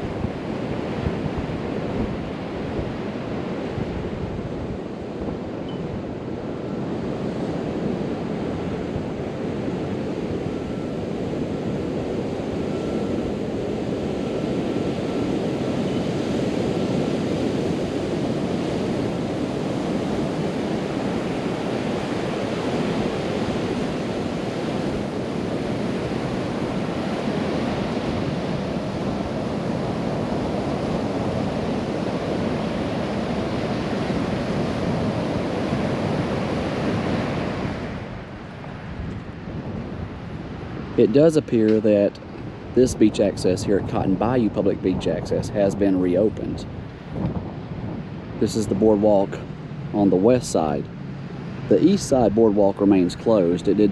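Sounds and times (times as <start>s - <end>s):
ocean surf breaking on beach: 0.0s - 53.9s
wind buffeting microphone: 0.0s - 53.9s.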